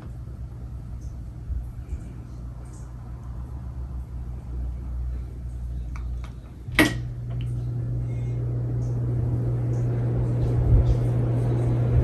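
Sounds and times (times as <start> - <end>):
ceiling fan motor humming: 0.0 - 12.0
fan air whooshing: 0.0 - 12.0.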